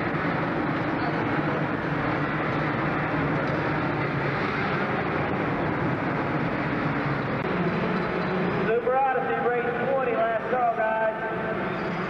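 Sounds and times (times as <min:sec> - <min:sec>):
racing kart engines droning: 0:00.0 - 0:12.0.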